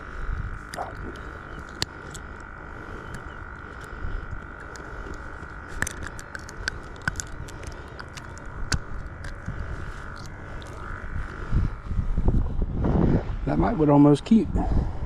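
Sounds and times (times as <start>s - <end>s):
steady high drone: 0.0s - 15.0s.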